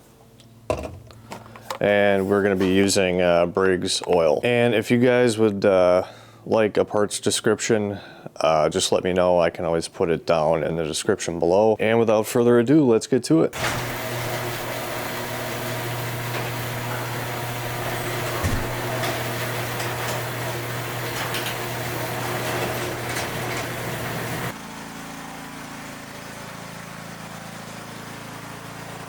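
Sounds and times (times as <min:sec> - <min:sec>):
mechanical hum: 0:00.0 - 0:12.6, 0:13.5 - 0:29.0.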